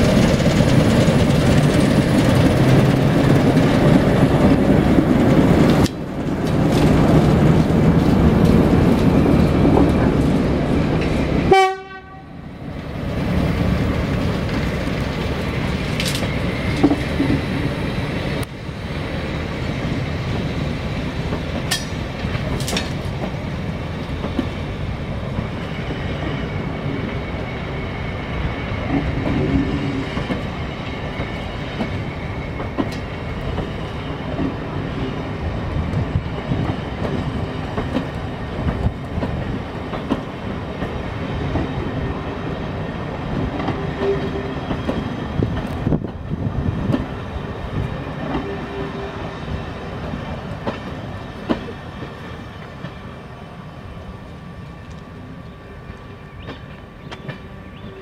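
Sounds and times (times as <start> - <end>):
wheels clicking over rail joints: 0.0 - 11.4, 12.7 - 18.6, 19.8 - 27.2, 28.8 - 48.8, 50.0 - 53.0
train coaches rumbling: 0.0 - 58.0.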